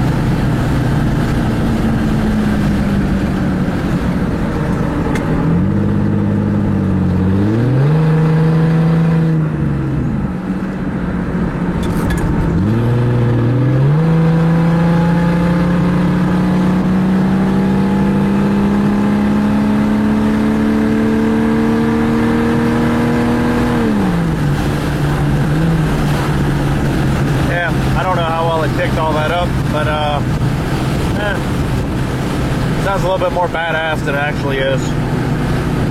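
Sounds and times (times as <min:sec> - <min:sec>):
unmuffled engine revving: 0:00.0 - 0:35.9.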